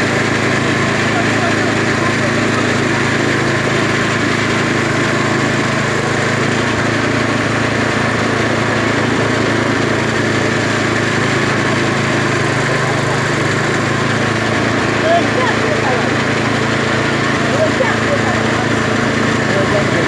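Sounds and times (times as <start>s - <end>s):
small petrol engine running: 0.0s - 20.0s.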